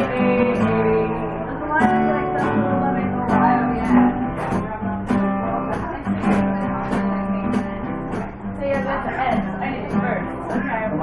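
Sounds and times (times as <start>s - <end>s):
acoustic guitar strumming: 0.0s - 11.0s
upbeat song: 0.0s - 11.0s.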